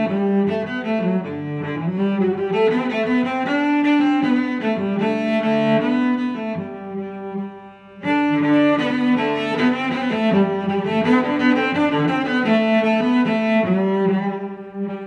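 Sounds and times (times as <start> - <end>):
bowed strings melody: 0.0 - 15.0.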